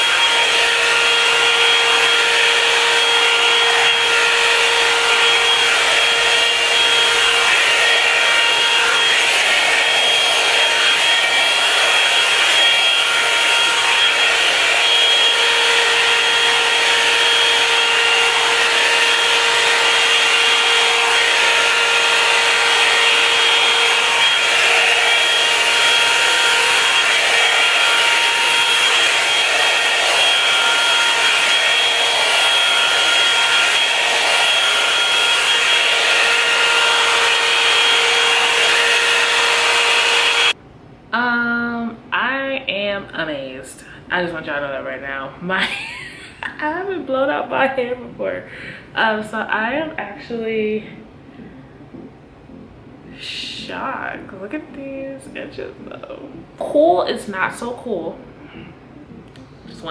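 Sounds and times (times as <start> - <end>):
hair dryer brush blowing air: 0.0 - 40.6, 50.9 - 59.9.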